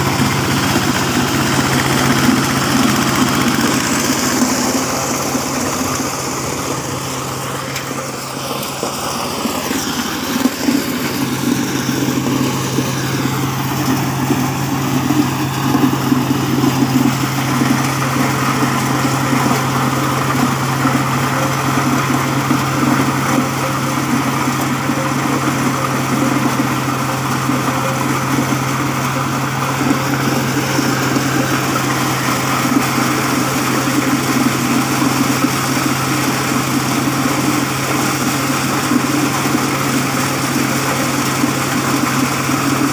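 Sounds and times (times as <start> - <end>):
blower rushing noise: 0.0 - 42.9
corn sheller engine droning: 0.0 - 42.9.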